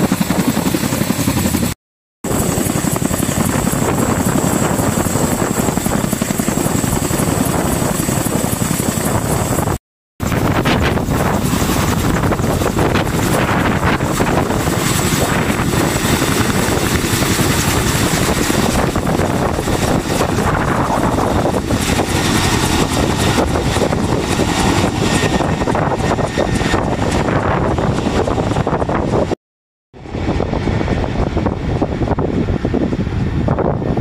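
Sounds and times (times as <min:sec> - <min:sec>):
helicopter rotors and engines: 0:00.0 - 0:29.4, 0:30.0 - 0:34.0.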